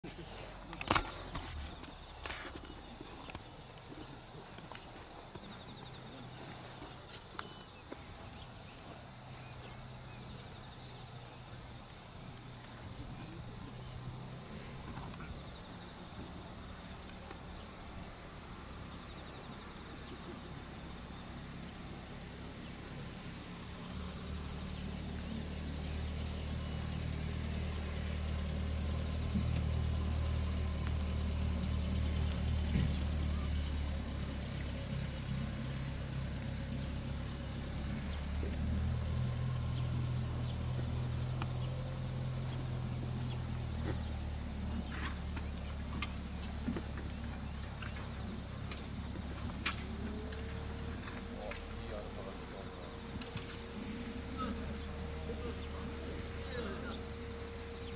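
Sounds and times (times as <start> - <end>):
car engine rumbling: 0.0 - 57.9.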